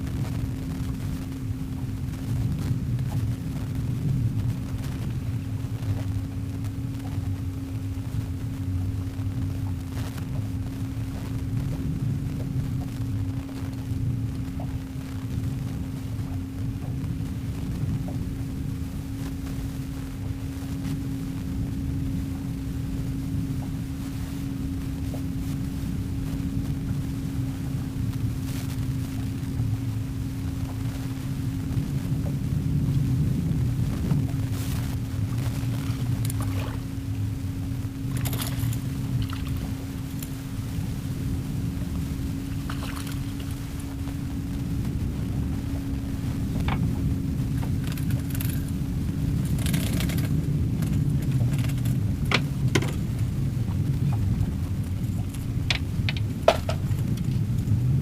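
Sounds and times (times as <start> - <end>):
boat motor rumbling: 0.0 - 58.0.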